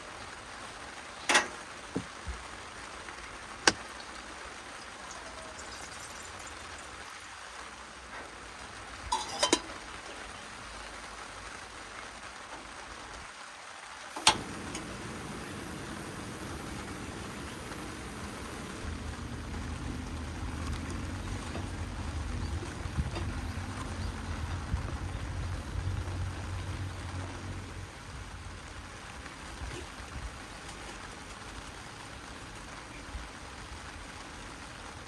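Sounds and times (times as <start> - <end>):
rain hiss: 0.0 - 35.0.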